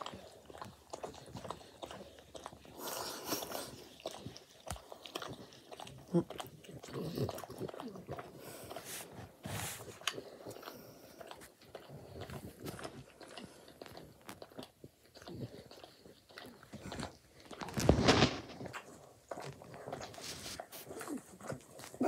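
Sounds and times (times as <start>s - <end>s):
dog licking and smacking: 0.0s - 22.0s.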